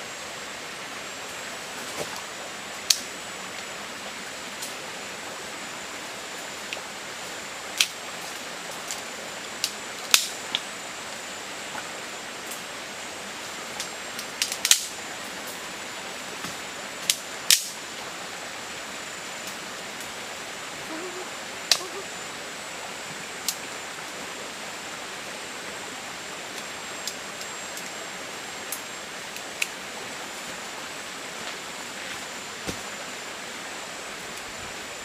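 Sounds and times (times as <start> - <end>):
river flowing over stones: 0.0 - 35.0.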